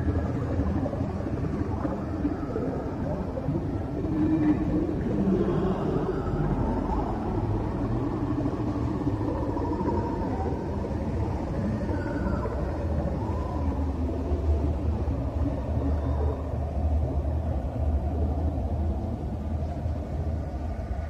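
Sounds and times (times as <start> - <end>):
faint wavering tones: 0.0 - 21.0
low rumbling drone: 0.0 - 21.0.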